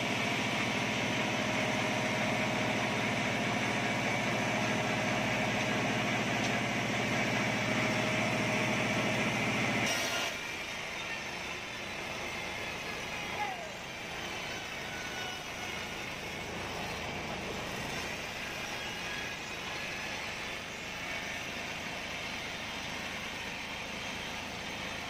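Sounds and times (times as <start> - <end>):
bandsaw cutting log: 0.0 - 10.7, 11.9 - 23.7
forklift engine throbbing: 0.0 - 25.0.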